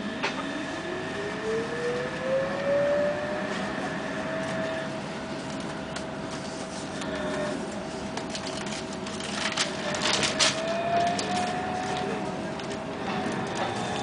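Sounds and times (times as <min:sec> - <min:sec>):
trolleybus electric drive whining: 0:00.0 - 0:06.4, 0:09.0 - 0:14.0
vehicle running noise: 0:00.0 - 0:14.0.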